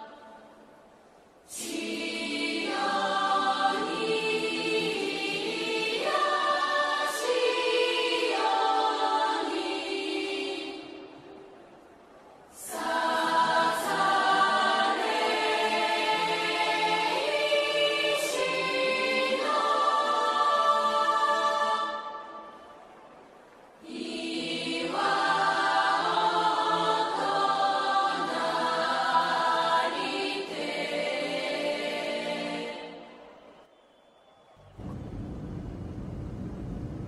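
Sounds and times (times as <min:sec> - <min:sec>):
choir singing held chords: 0:00.0 - 0:11.8, 0:12.5 - 0:22.9, 0:23.8 - 0:33.7.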